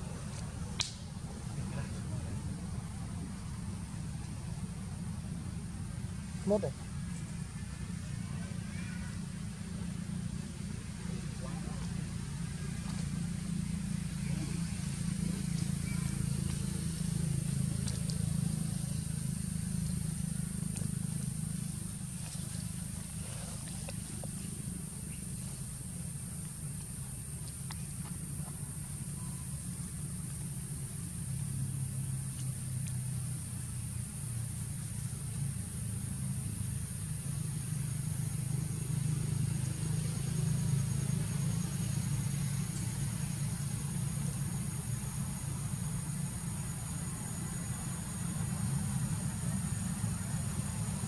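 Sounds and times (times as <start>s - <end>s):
low engine-like hum: 0.0s - 51.0s.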